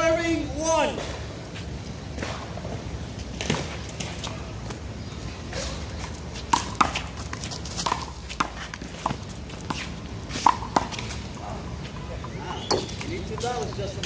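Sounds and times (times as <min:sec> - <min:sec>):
footsteps on court: 0:01.0 - 0:14.0.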